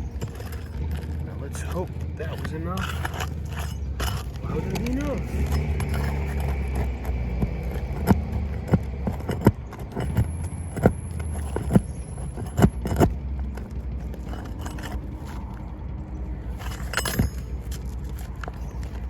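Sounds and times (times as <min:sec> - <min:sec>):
metallic taps and clinks: 0:00.0 - 0:15.6, 0:16.6 - 0:19.0.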